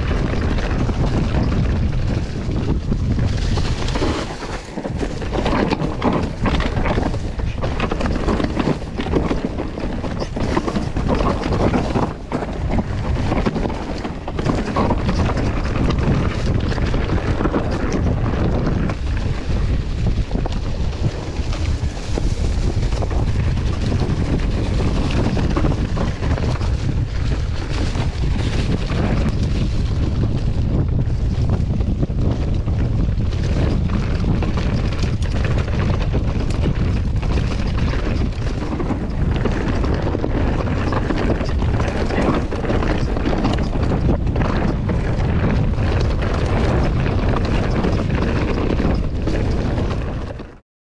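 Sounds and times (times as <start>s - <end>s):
bike clattering over rough ground: 0.0s - 50.6s
wind rushing over microphone: 0.0s - 50.6s.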